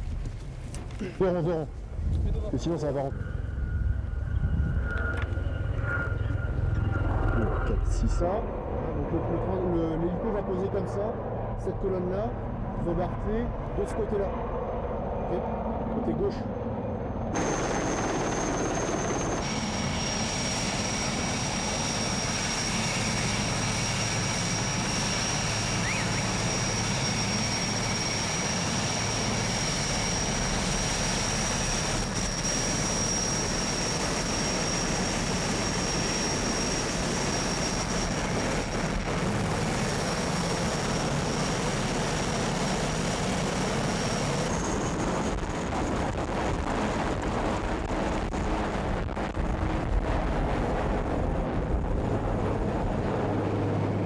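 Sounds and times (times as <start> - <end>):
helicopter rotor and engine: 0.0 - 54.0
high turbine whine: 0.0 - 54.0.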